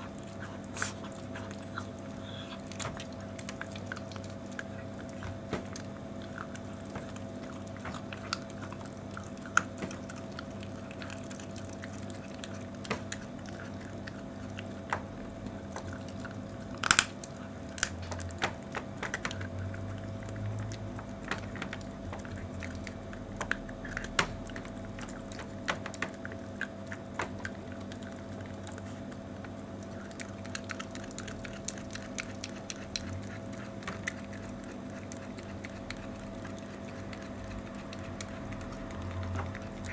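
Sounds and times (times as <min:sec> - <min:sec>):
dog crunching a bone: 0:00.0 - 0:39.9.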